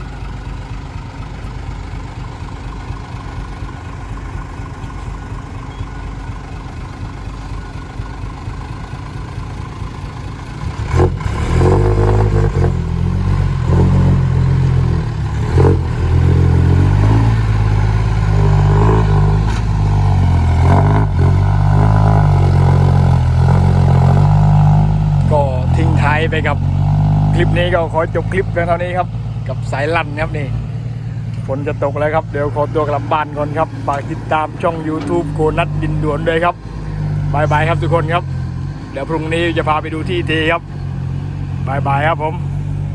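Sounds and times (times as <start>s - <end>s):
vehicle engine revving: 1.3s - 42.9s.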